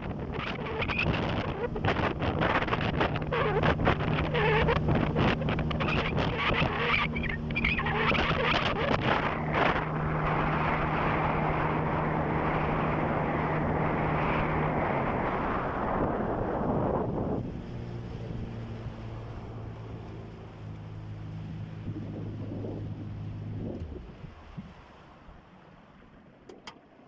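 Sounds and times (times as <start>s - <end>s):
wind buffeting microphone: 0.0s - 24.8s
small boat motor running: 0.0s - 27.0s
water noise: 0.0s - 27.0s.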